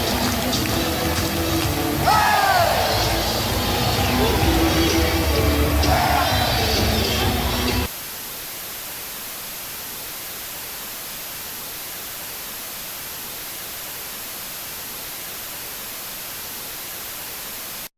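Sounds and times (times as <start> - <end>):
static hiss: 0.0 - 17.9.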